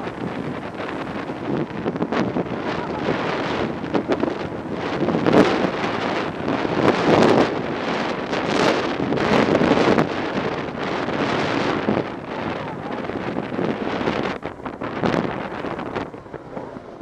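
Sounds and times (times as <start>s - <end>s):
vehicle engine running: 0.0s - 17.0s
wind buffeting the microphone: 0.0s - 17.0s.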